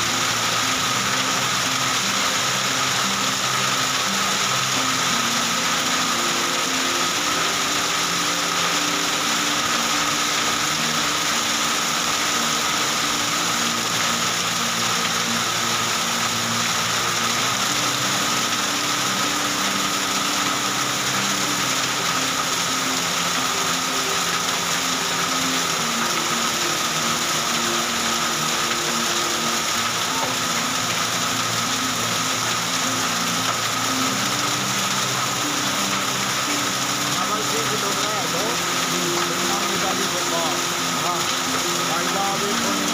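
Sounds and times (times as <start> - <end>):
heavy rain with hail: 0.0 - 42.9
soft low background music: 0.0 - 42.9.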